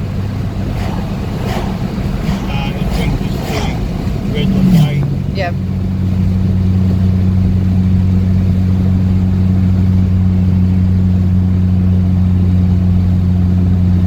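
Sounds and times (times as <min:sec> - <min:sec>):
tyre and road noise: 0:00.0 - 0:11.3
car engine hum: 0:00.0 - 0:14.0.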